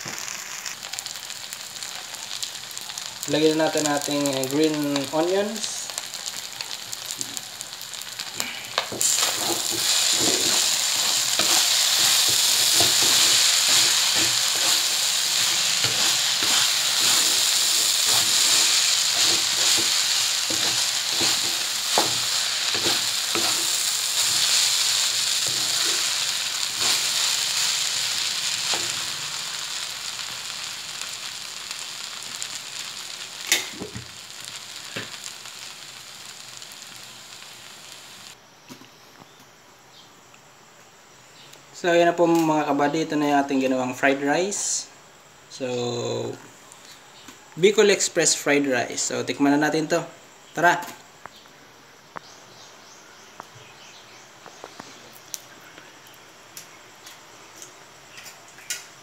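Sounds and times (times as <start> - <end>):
rice sizzling in a wok: 0.0 - 38.4, 41.8 - 59.0.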